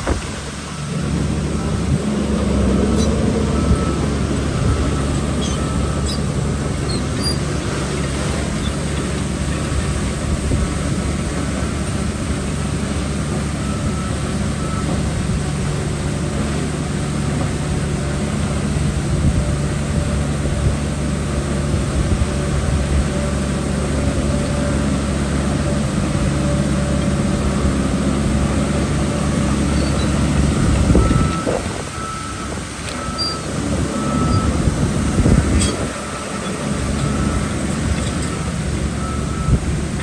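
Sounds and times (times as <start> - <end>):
heavy diesel engine droning: 0.0 - 40.0.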